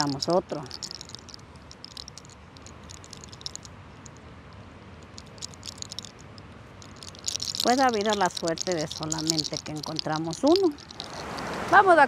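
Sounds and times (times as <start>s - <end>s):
hair crackling clicks: 0.0s - 4.2s, 5.0s - 11.8s.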